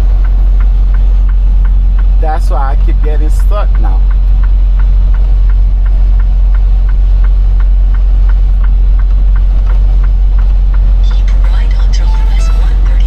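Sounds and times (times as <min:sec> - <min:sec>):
light regular ticking: 0:00.0 - 0:13.0
truck engine and road noise: 0:00.0 - 0:13.0.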